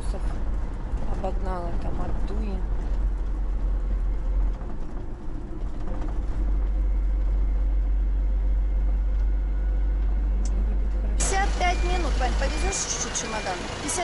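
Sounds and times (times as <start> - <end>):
road and engine rumble in vehicle: 0.0 - 14.0.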